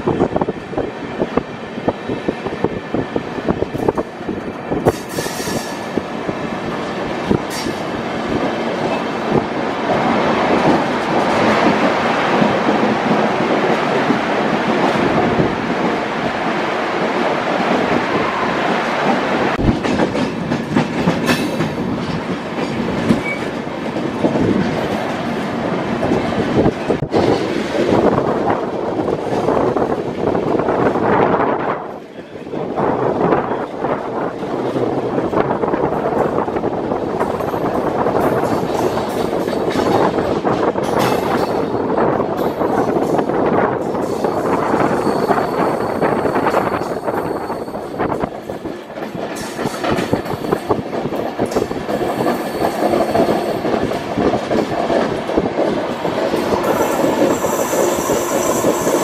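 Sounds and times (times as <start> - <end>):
clickety-clack over rail joints: 0.0 - 59.0
train wheel-on-rail rumble: 0.0 - 59.0.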